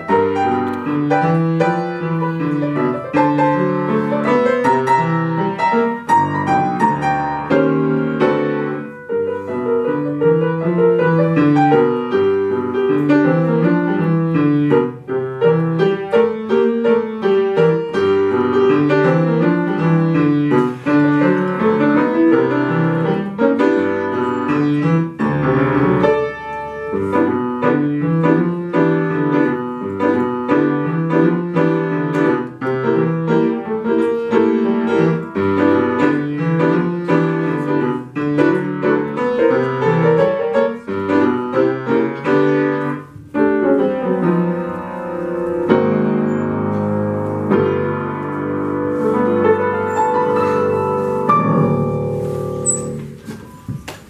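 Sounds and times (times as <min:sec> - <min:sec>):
jazz piano piece: 0:00.0 - 0:54.0.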